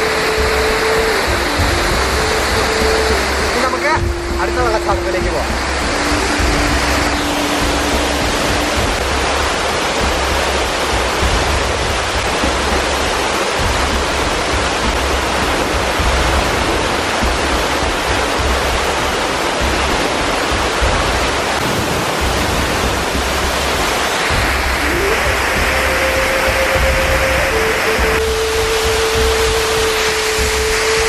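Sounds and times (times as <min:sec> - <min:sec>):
waterfall pouring onto rocks: 0:00.0 - 0:31.0.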